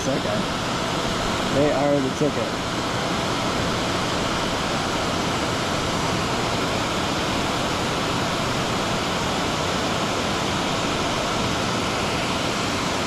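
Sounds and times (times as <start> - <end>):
fast-flowing creek water: 0.0 - 13.0.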